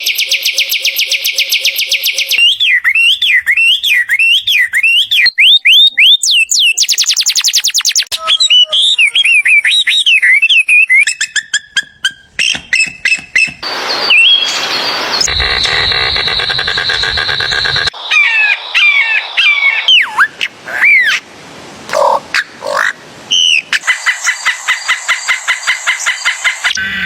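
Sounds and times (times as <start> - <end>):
bird whistled notes: 0.0 - 11.6, 12.4 - 21.2, 23.3 - 27.0
bird trilling: 0.0 - 21.2, 21.9 - 27.0
bird twittering: 0.0 - 21.2, 21.9 - 27.0.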